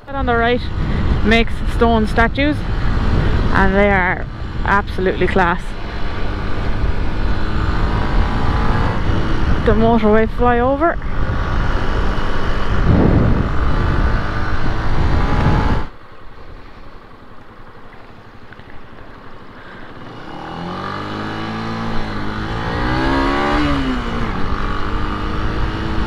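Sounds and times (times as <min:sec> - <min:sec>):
wind noise at speed: 0:00.0 - 0:16.9, 0:19.9 - 0:26.0
motorcycle engine revving: 0:00.1 - 0:16.0, 0:18.2 - 0:26.0.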